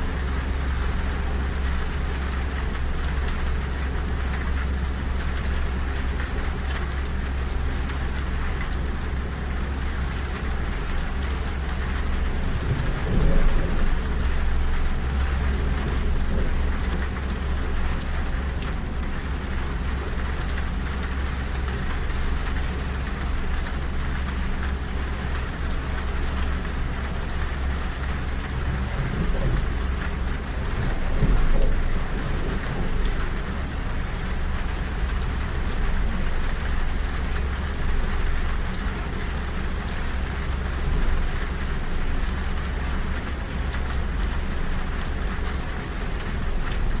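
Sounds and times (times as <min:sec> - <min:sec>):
rain pattering on window: 0:00.0 - 0:47.0
train carriage rumble: 0:06.9 - 0:47.0.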